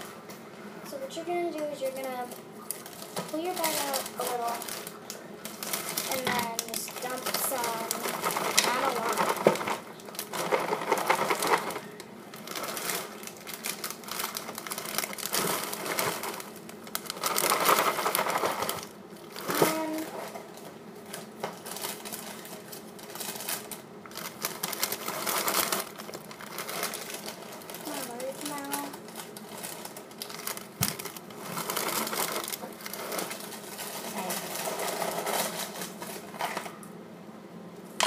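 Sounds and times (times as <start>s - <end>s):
plastic bag crinkling: 1.4s - 36.8s
cereal rattling in bag: 1.8s - 36.7s.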